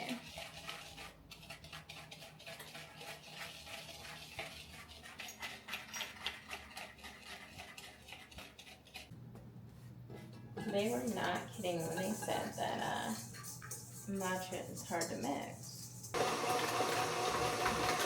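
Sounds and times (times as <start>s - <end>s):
whisk scraping and tapping bowl: 0.0s - 9.1s, 10.1s - 18.0s.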